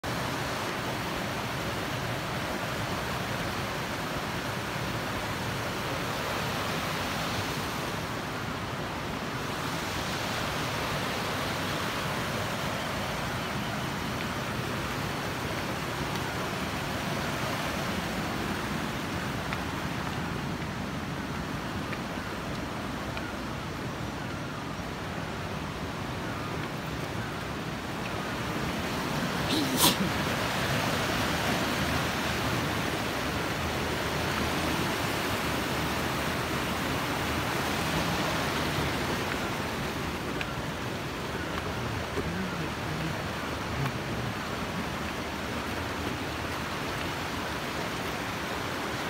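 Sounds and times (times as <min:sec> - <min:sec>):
stream rushing over stones: 0:00.0 - 0:49.0.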